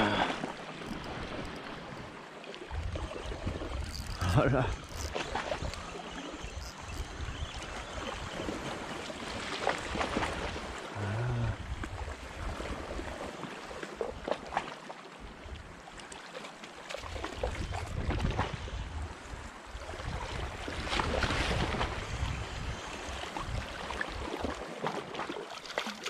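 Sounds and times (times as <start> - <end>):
small waves lapping and splashing: 0.0 - 26.0.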